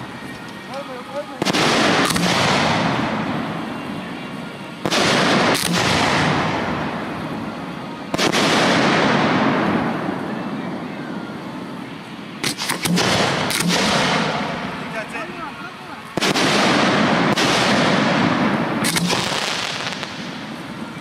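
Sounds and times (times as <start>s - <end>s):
fireworks dense hiss: 0.0s - 21.0s
fireworks reports: 0.0s - 21.0s.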